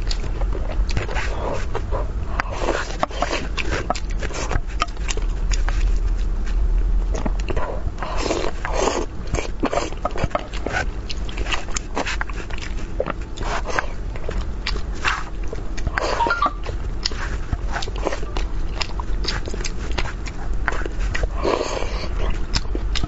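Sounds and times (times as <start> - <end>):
chewing with wet clicks: 0.0 - 6.3, 7.1 - 23.0
steady low hum: 0.0 - 23.0.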